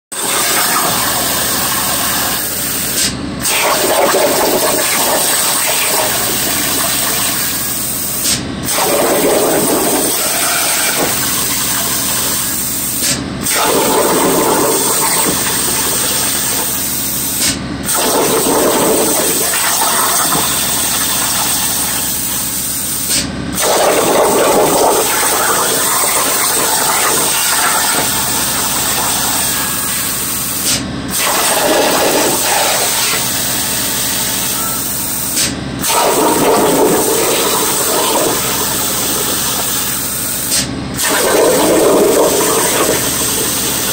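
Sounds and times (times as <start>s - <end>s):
plasma torch hissing: 0.2s - 43.9s.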